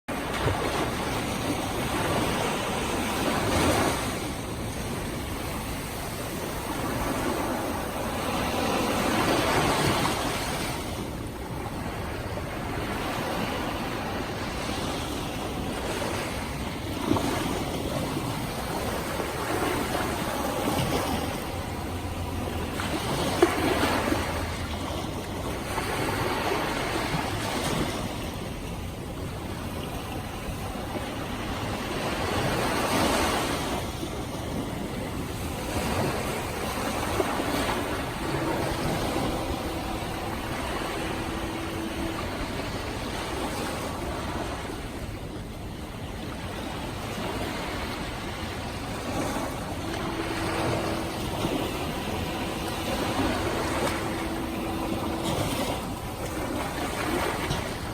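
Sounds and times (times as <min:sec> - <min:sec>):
faint steady hum: 0:00.1 - 0:57.9
ocean waves breaking on beach: 0:00.1 - 0:57.9.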